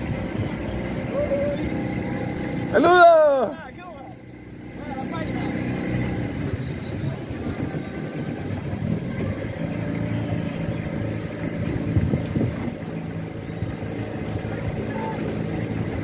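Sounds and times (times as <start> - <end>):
boat engine running: 0.0 - 16.0
water and wind noise: 0.0 - 16.0.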